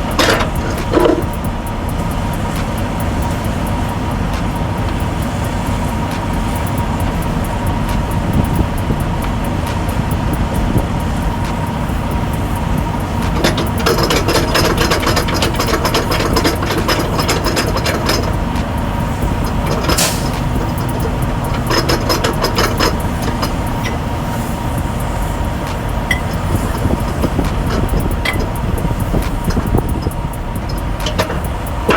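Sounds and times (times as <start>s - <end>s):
diesel engine rumbling: 0.0s - 31.9s
rapid clicking and rattling: 0.0s - 31.9s.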